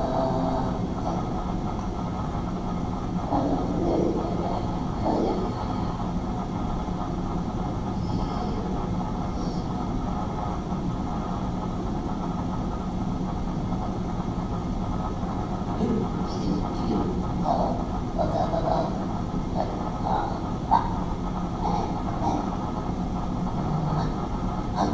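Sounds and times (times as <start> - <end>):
low rumbling soundscape: 0.0 - 24.9.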